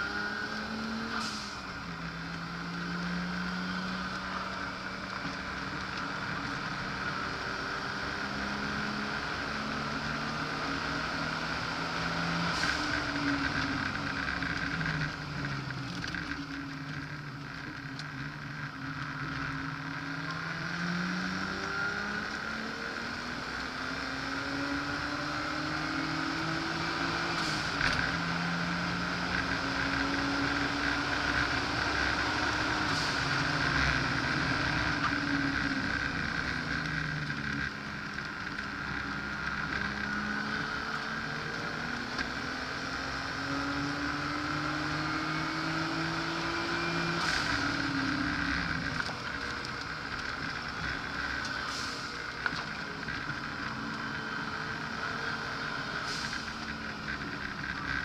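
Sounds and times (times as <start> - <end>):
race car engine: 0.0 - 58.0
road and wind noise hiss: 0.0 - 58.0.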